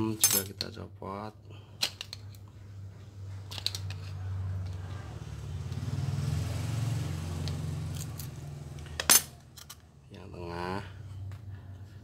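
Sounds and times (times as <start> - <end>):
vehicle engine droning: 1.5 - 12.0.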